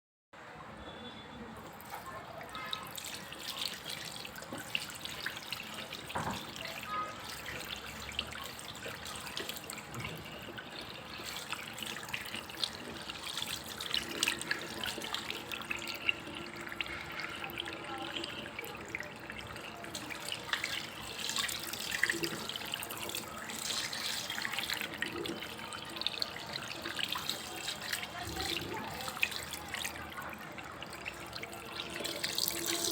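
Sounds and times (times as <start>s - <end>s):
running water splashing: 1.6s - 32.9s
water drips: 1.6s - 32.9s.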